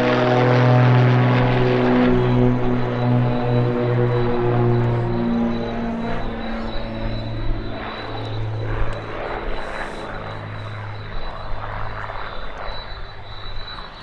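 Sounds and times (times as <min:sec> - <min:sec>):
propeller aircraft droning: 0:00.0 - 0:14.0.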